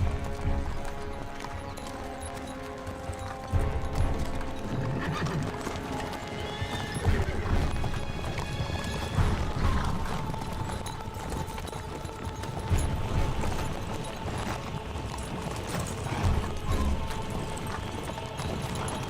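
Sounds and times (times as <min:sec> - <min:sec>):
film music: 0:00.0 - 0:19.0
horse hoofbeats: 0:00.0 - 0:19.0.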